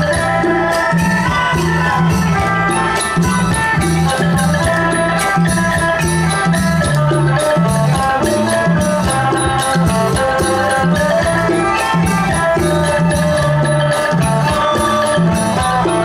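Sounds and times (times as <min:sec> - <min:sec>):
folk ensemble playing: 0:00.0 - 0:16.0.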